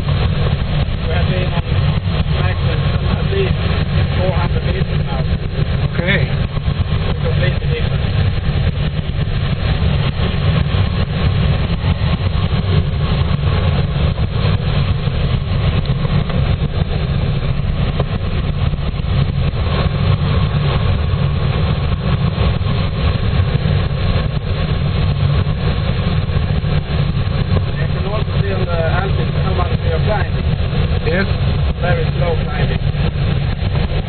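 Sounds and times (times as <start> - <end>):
airflow rushing over canopy: 0.0 - 34.0.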